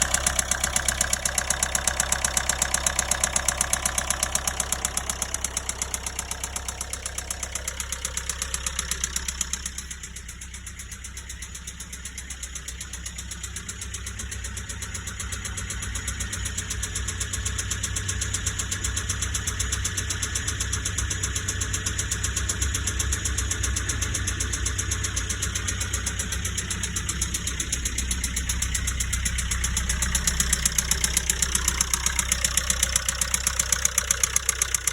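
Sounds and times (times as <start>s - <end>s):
diesel engine idling with knock: 0.0s - 34.9s.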